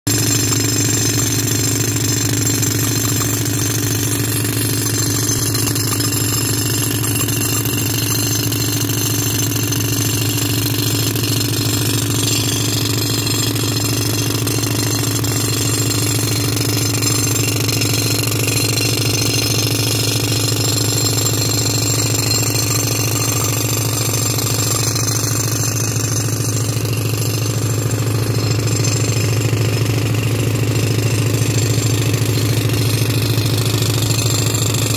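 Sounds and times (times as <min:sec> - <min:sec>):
pneumatic rock drill hammering: 0:00.1 - 0:34.9.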